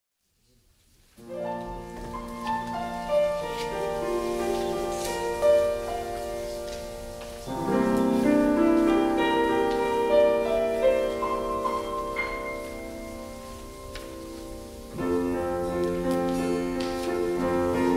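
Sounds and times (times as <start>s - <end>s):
piano playing: 1.2s - 17.9s.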